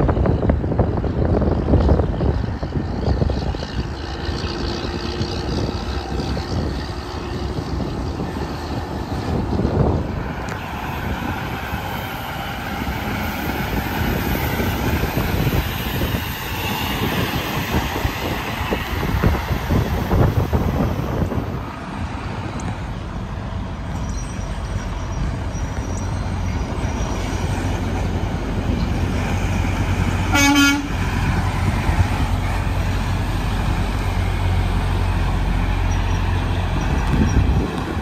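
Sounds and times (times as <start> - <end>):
engine and tyre whines: 0.0 - 38.0
highway traffic rumble: 0.0 - 38.0.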